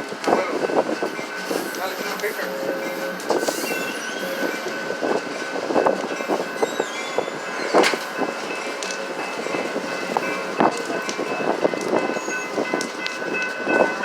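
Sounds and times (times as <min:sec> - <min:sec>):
train wheels clattering over rails: 0:00.0 - 0:14.0.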